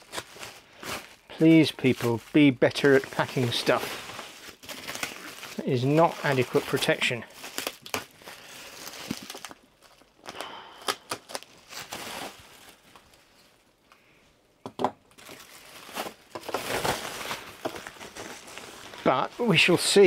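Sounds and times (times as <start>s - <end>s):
bubble wrap crinkling: 0.0s - 13.9s, 15.1s - 20.0s.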